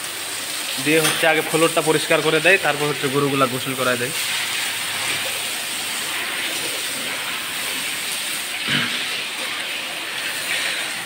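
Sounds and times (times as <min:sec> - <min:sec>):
hose water spraying on floor: 0:00.0 - 0:11.0.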